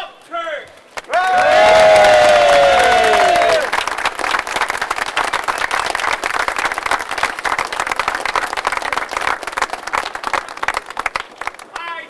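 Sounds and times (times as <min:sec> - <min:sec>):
crowd applauding: 0:01.0 - 0:12.0.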